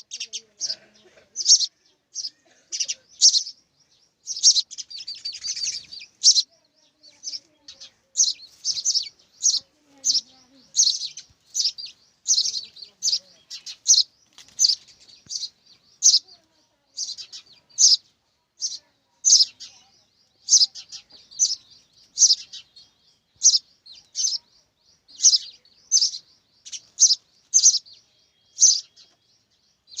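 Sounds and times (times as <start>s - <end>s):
young sparrows chirping: 0.0s - 30.0s.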